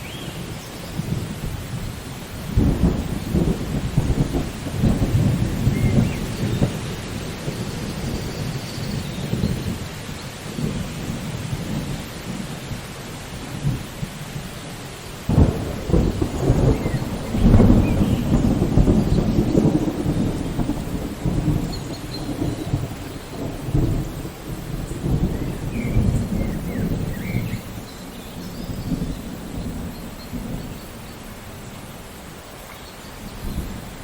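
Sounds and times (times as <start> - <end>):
steady rain falling: 0.0 - 34.0
thunderclap and rumble: 0.4 - 14.6, 15.2 - 32.5.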